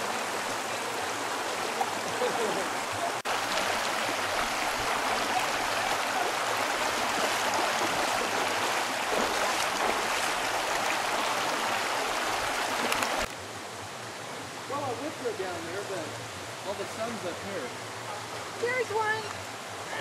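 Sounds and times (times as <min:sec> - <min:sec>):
river water flowing over rocks: 0:00.0 - 0:20.0.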